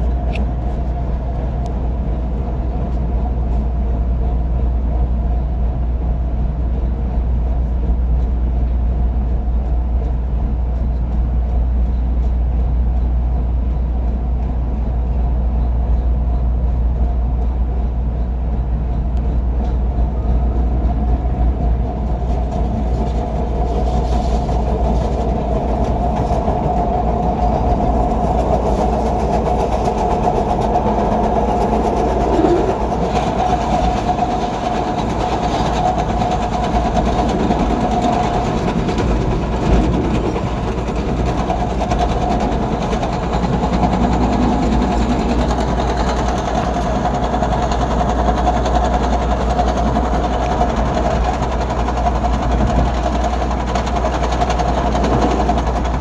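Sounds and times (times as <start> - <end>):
steady train whine: 0.0 - 56.0
train wheels rumbling on rail: 0.0 - 56.0.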